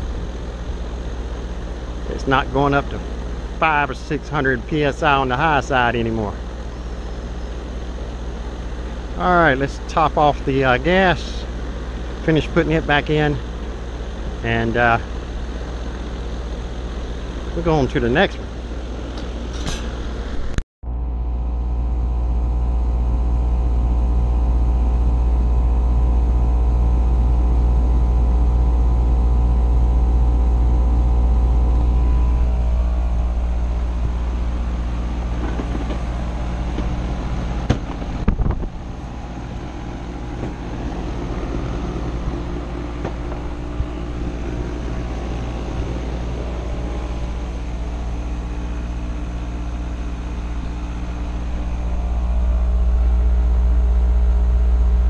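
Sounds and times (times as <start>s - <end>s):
air conditioner compressor hum: 0.0s - 55.0s.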